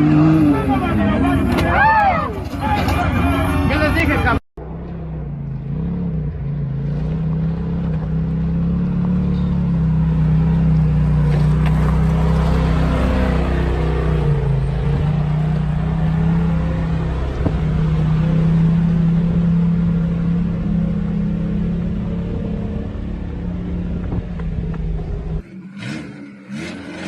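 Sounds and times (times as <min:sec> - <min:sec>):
vehicle engine running: 0:02.3 - 0:27.0.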